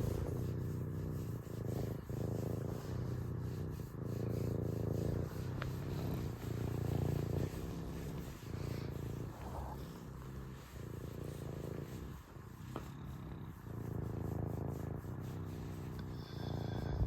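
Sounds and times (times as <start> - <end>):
serval purring: 0.0 - 17.0.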